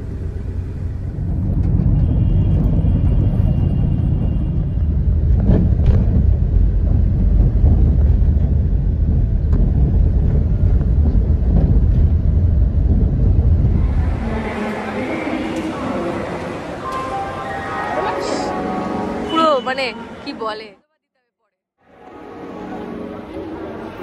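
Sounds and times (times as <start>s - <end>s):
road vehicle rumbling: 0.0s - 20.7s.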